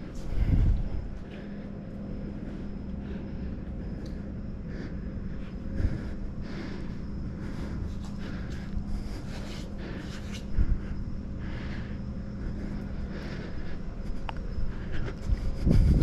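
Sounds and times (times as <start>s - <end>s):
low hum and rumble: 0.0s - 16.0s.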